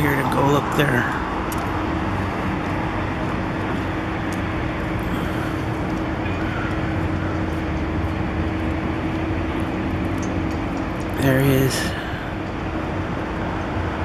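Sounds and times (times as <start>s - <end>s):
urban traffic hum: 0.0s - 14.0s.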